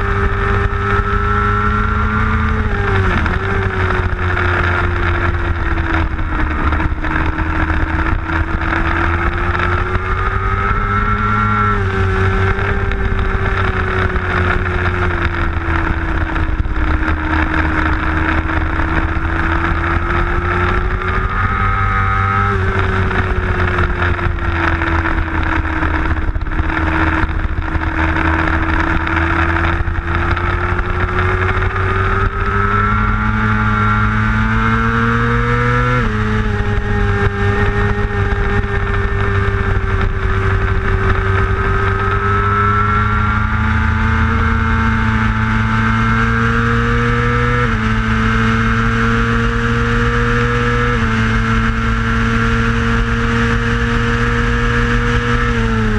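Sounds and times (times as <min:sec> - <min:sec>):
motorcycle engine at high revs: 0:00.0 - 0:55.9.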